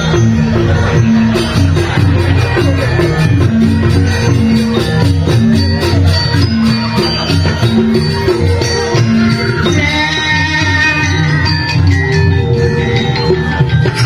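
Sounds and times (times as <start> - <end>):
jangling metal percussion: 0.0 - 14.0
metallophones ringing: 0.0 - 14.0.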